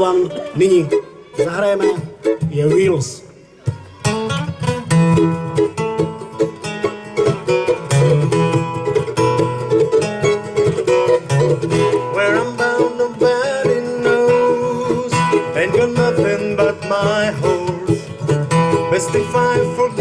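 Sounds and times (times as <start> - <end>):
live country band playing: 0.0 - 20.0
picked and strummed guitar: 0.0 - 20.0.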